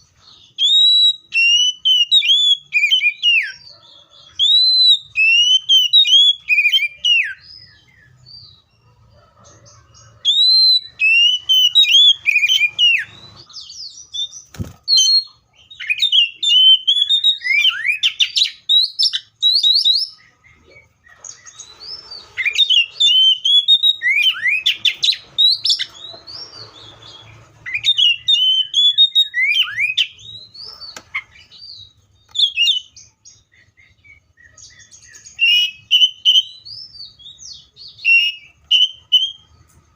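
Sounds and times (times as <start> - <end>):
bird singing whistled notes: 0.0 - 8.8, 10.0 - 39.9.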